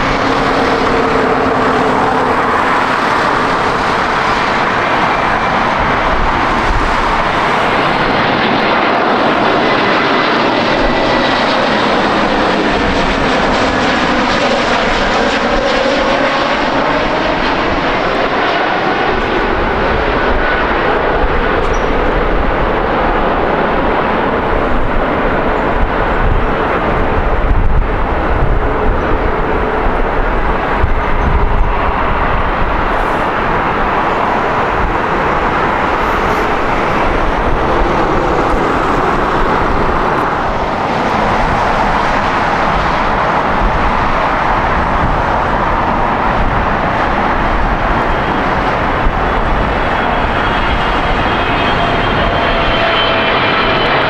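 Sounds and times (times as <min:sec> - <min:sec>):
jet airliner engines roaring: 0:00.0 - 0:54.0.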